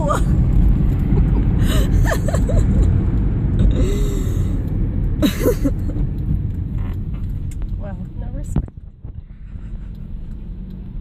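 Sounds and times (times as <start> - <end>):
car rumble inside cabin: 0.0 - 11.0.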